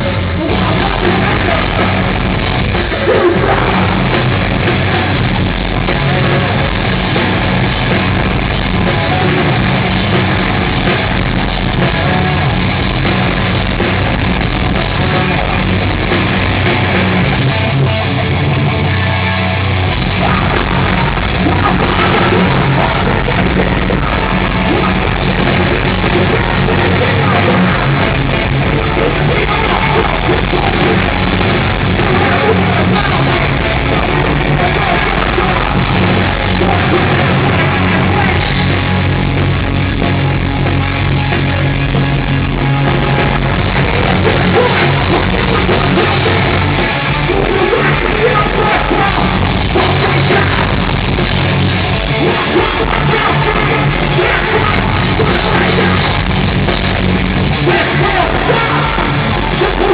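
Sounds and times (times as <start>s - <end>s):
heavy rock band playing live: 0.0s - 59.9s
yelled vocals: 0.0s - 59.9s.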